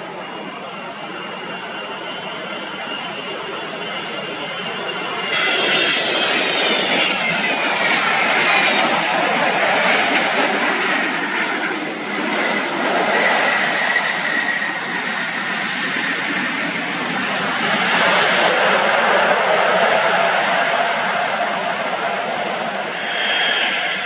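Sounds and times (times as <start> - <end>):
airliner passing overhead: 0.0 - 24.0.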